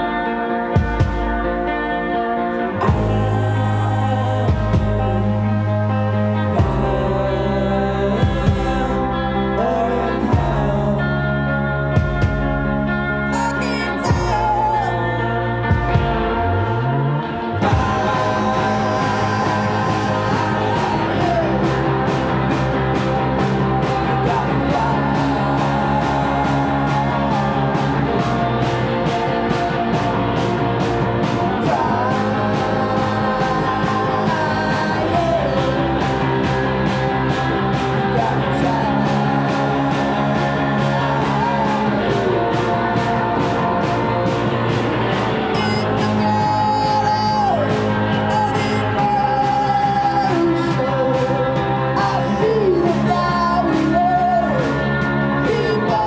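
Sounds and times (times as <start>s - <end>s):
bass guitar: 0.0s - 56.0s
electric guitar: 0.0s - 56.0s
person singing: 0.0s - 56.0s
steady drum beat: 0.8s - 1.6s, 2.8s - 5.6s, 6.5s - 7.2s, 8.2s - 9.1s, 12.0s - 12.8s, 13.7s - 14.9s, 15.6s - 16.6s, 17.6s - 56.0s.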